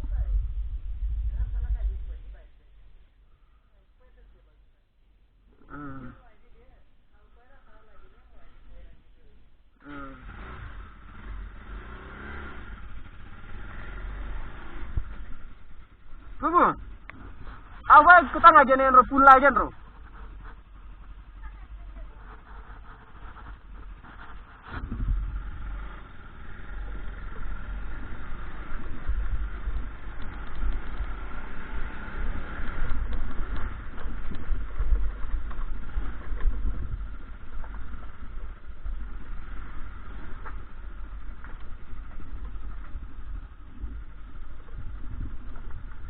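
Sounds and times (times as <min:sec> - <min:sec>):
motorcycle engine running: 0:05.7 - 0:46.0.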